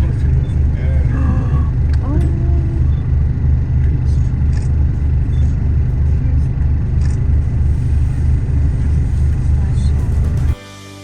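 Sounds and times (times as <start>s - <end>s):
vehicle engine rumbling: 0.0s - 10.6s.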